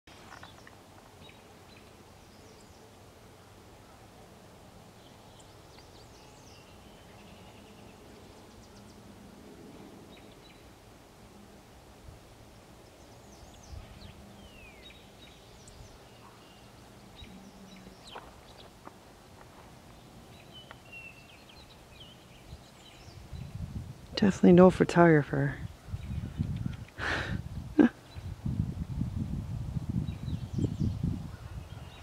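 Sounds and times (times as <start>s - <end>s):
songbirds chirping: 0.1s - 28.4s, 30.0s - 32.0s.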